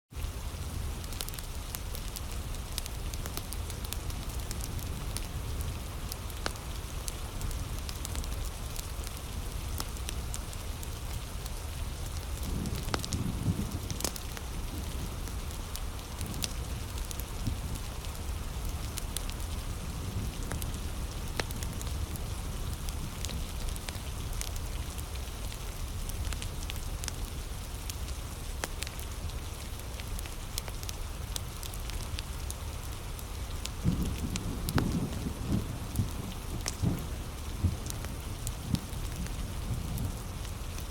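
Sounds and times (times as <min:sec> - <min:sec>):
heavy rain falling: 0:00.2 - 0:40.9
wood fire crackling and popping: 0:00.2 - 0:40.9.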